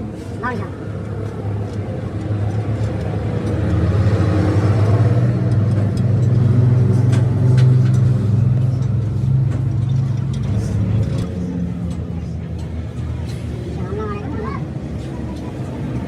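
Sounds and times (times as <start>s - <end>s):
engine running with deep hum: 0.0s - 16.0s.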